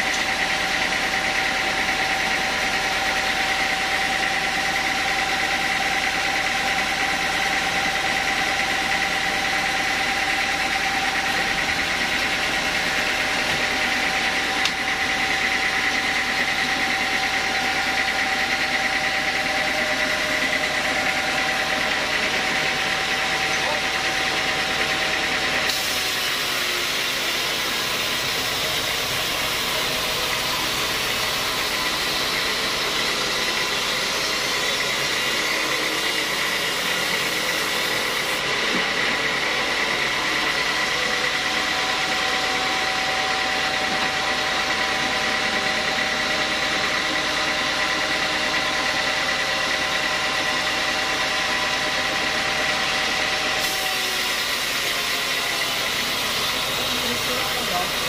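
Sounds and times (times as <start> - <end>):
band sawmill running: 0.0 - 58.0
saw blade cutting log: 0.0 - 58.0.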